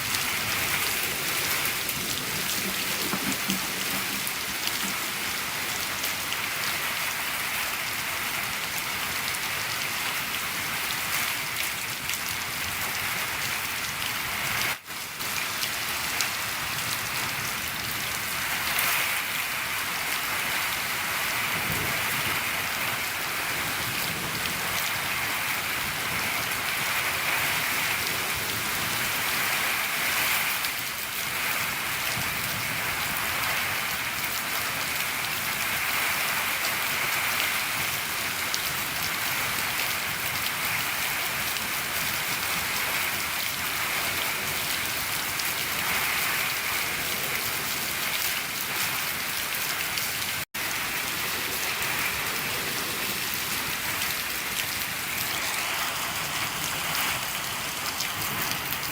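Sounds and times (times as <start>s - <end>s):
rain on a shed roof: 0.0s - 58.9s.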